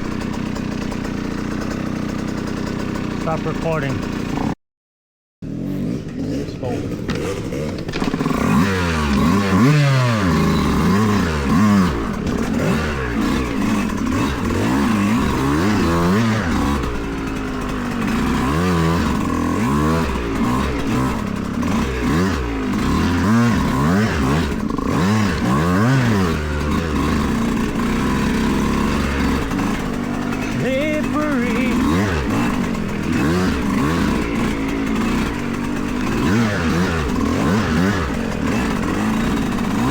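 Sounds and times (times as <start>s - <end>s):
dirt bike engine revving: 0.0s - 4.6s, 5.4s - 39.9s.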